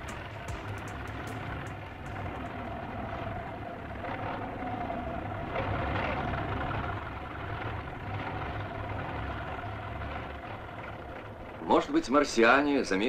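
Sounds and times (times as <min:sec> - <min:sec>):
bulldozer engine throbbing: 0:00.0 - 0:11.7.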